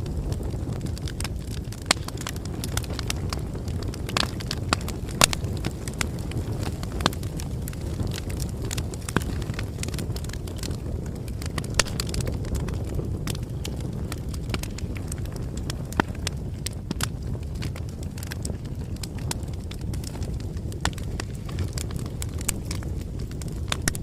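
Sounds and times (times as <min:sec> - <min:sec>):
low rumble of flames: 0:00.0 - 0:24.0
wood crackling and popping: 0:00.0 - 0:24.0.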